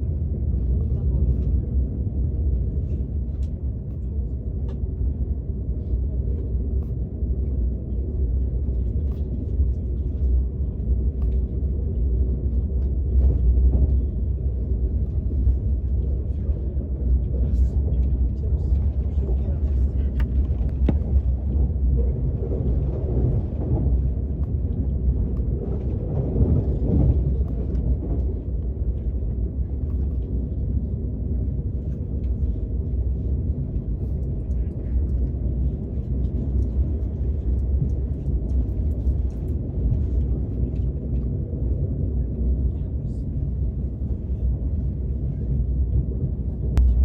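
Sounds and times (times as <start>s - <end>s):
train rumbling inside car: 0.0s - 47.0s.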